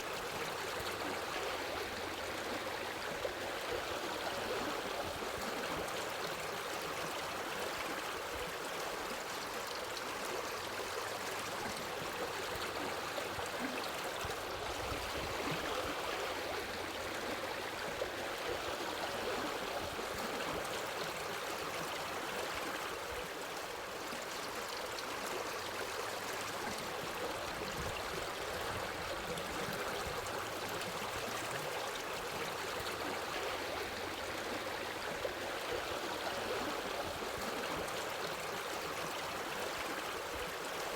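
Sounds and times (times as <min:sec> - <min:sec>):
running stream water: 0:00.0 - 0:40.9.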